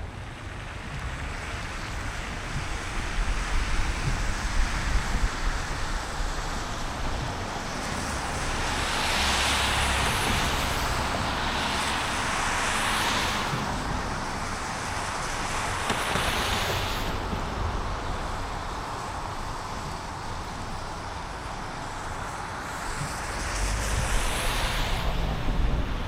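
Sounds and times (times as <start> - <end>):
tyres hissing on wet road: 0.0 - 26.0.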